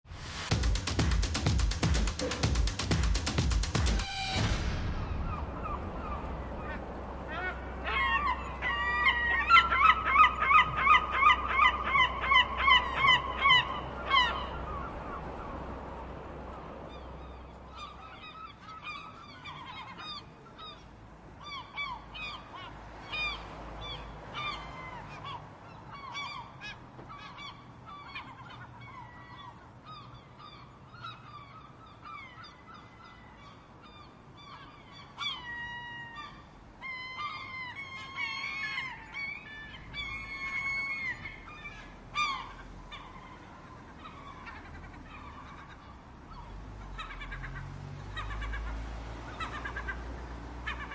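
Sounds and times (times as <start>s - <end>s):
seagulls calling: 0.3s - 50.9s
gull rapid yelping calls: 0.4s - 15.6s, 16.9s - 50.9s.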